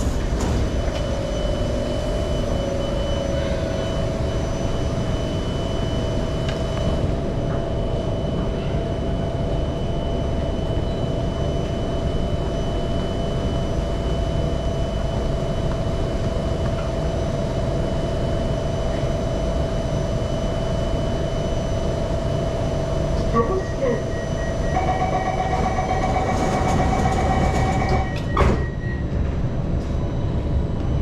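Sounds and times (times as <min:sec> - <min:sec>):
train wheels rumbling on rail: 0:00.0 - 0:05.4, 0:06.0 - 0:19.9, 0:24.6 - 0:31.0
constant high whine: 0:00.0 - 0:31.0.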